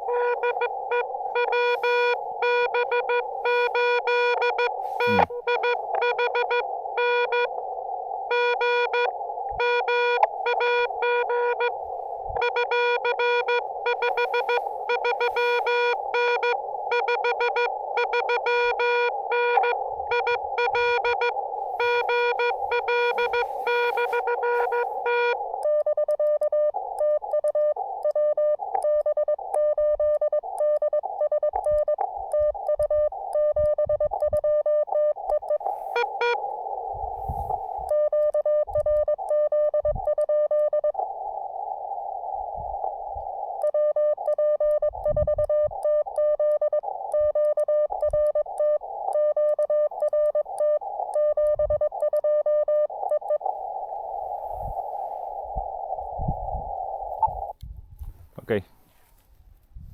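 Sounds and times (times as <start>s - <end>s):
morse code tone: 0.0s - 7.6s, 8.2s - 41.0s, 43.5s - 57.5s
radio receiver hiss: 0.0s - 29.7s, 30.4s - 59.4s.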